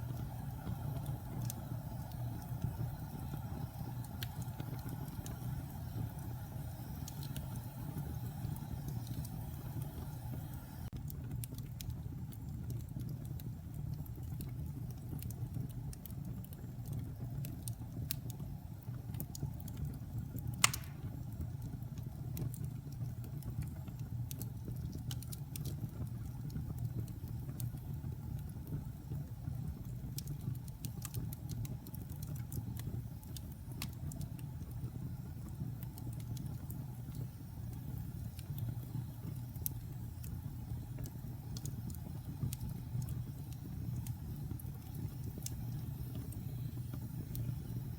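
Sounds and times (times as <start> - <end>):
wood fire burning: 0.0 - 47.9.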